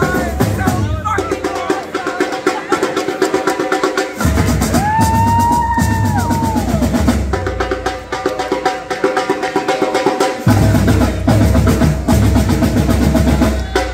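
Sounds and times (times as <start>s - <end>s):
snare and bass drums playing: 0.0s - 13.9s.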